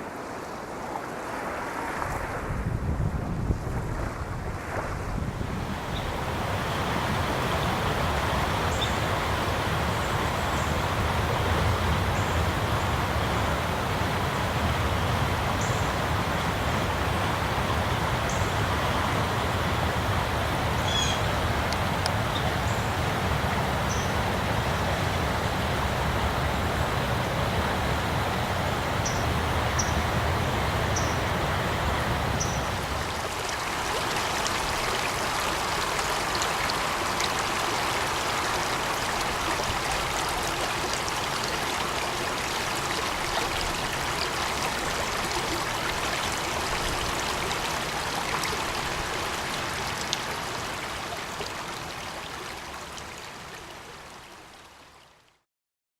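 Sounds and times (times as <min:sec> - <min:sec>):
rushing water: 0:00.0 - 0:55.5
brook splashing: 0:05.8 - 0:53.6.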